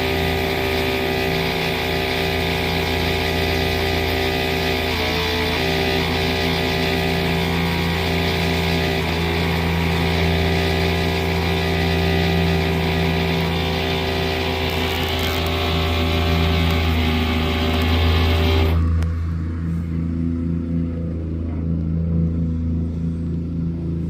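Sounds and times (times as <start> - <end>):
engine low drone: 0.0 - 24.0.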